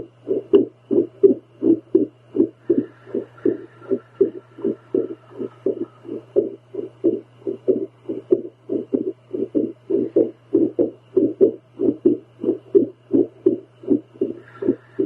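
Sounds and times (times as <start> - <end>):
low device hum: 0.0 - 15.0
whooshing heartbeat pulses: 0.0 - 15.0.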